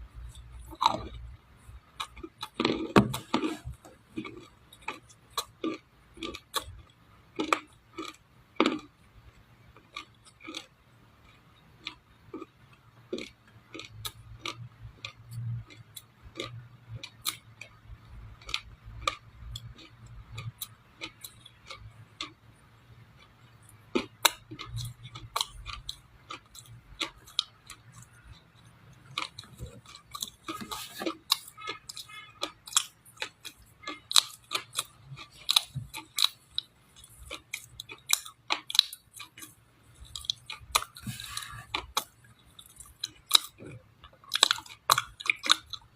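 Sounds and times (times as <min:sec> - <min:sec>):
crunching and chewing clay: 0:00.0 - 0:45.9.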